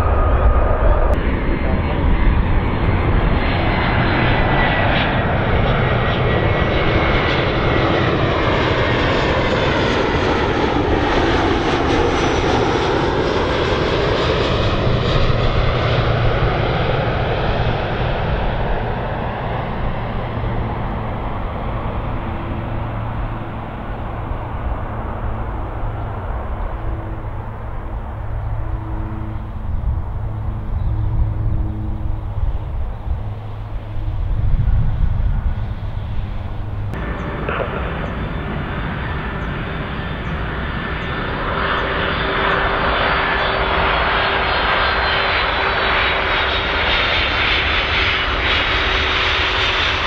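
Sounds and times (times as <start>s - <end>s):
jet airliner passing: 0.0s - 50.0s.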